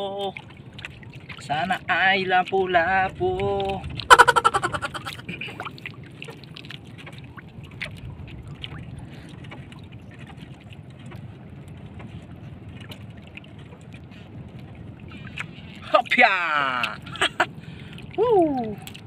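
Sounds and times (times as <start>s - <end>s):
sea water washing: 0.0s - 19.0s
wind: 0.0s - 19.0s.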